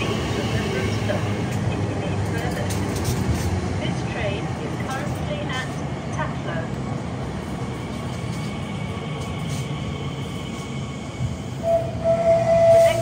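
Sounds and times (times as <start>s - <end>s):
electric train hum with whine: 0.0s - 13.0s.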